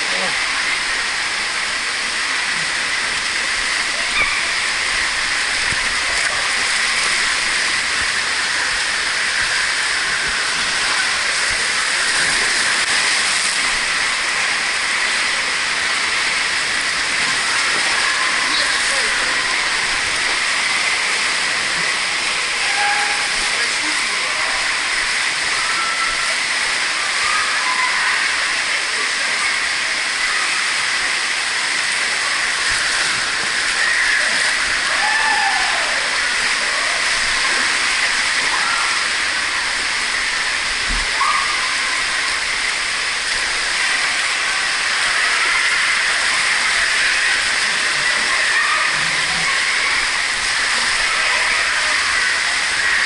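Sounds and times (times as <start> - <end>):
water rushing down slide: 0.0 - 53.0.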